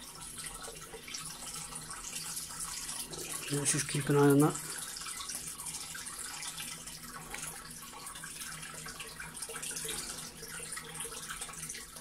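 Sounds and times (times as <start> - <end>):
hose water pouring into tank: 0.0 - 12.0.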